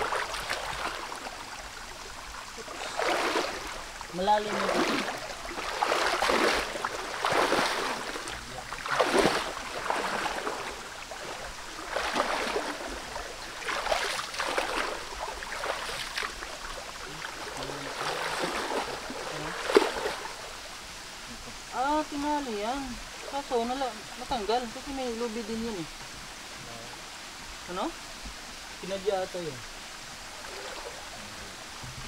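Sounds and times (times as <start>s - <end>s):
wading splashes in water: 0.0s - 27.0s, 27.7s - 32.0s
stream flowing: 0.0s - 32.0s.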